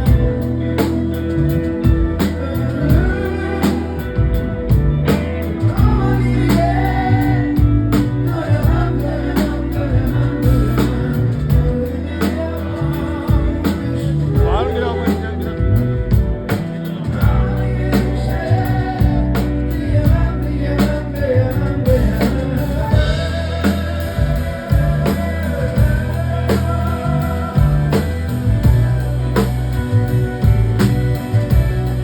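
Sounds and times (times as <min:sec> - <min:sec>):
bass line: 0:00.0 - 0:32.0
drum kit beat: 0:00.0 - 0:32.0
melodic lead line: 0:00.0 - 0:32.0.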